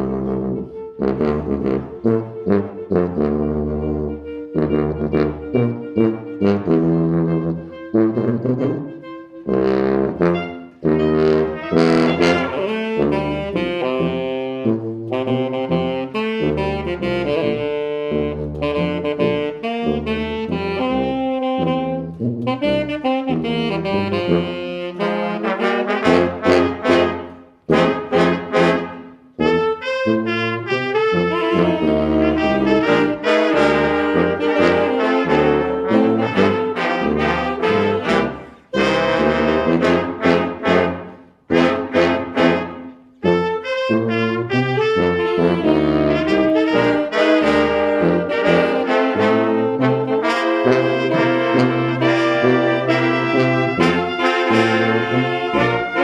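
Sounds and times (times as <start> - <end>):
jazz ensemble with brass: 0.0 - 56.0
trombone: 0.0 - 56.0.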